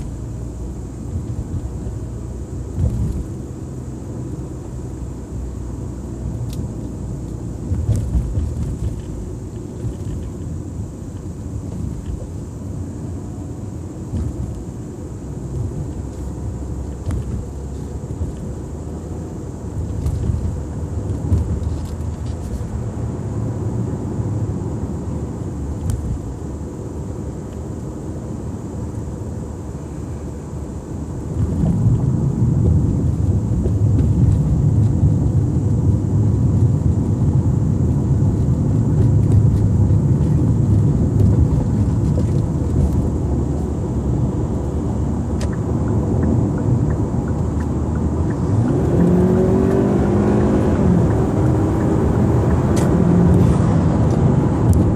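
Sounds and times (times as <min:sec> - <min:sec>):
car engine running: 0:00.0 - 0:54.9
low road rumble: 0:00.0 - 0:54.9.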